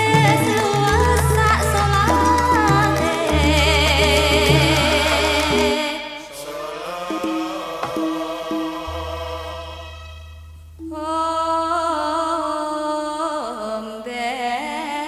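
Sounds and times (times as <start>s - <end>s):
person singing long wavering notes: 0.0s - 14.3s.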